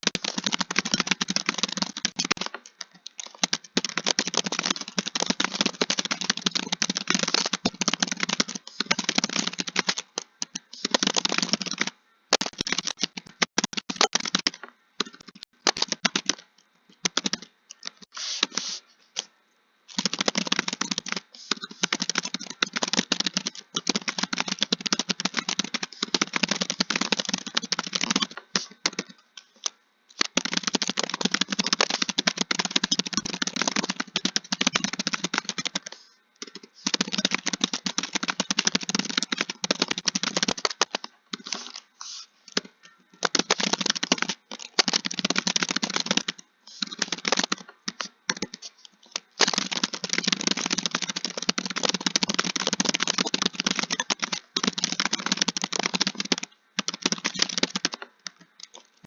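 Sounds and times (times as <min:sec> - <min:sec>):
fast typing on a keyboard: 0:00.0 - 0:18.8, 0:19.9 - 0:59.0.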